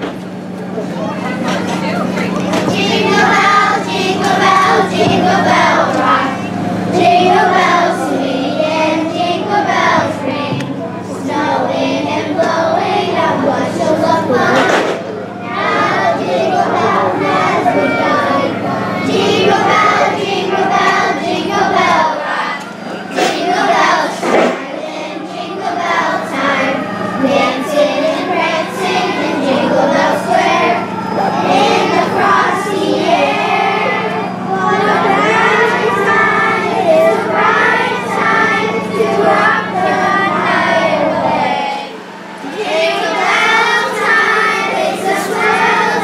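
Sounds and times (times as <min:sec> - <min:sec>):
steady low hum: 0:00.0 - 0:46.0
children singing a carol: 0:00.8 - 0:46.0.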